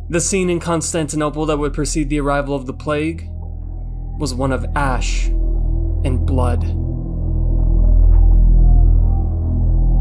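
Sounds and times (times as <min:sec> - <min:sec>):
dark ambient drone music: 0:00.0 - 0:10.0.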